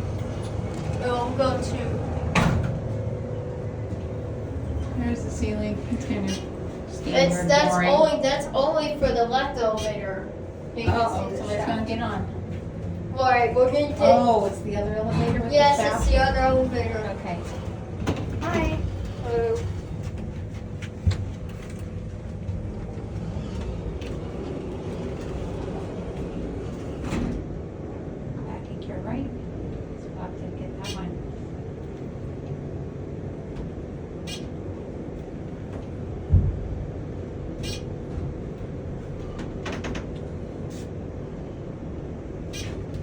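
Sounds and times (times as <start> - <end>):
elevator running low rumble: 0.0 - 43.0.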